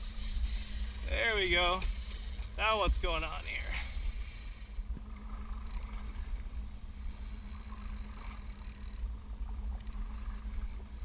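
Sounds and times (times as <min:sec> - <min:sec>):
steady low hum: 0:00.0 - 0:11.0
wind rumbling on microphone: 0:00.0 - 0:11.0.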